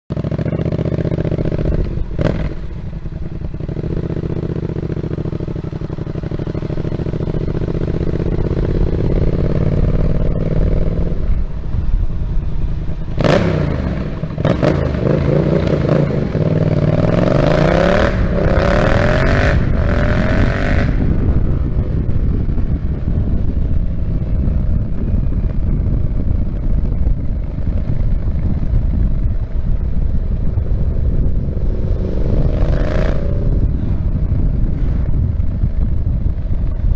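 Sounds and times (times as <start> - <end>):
motorcycle engine revving: 0.1 - 36.9
wind rush: 1.0 - 36.9.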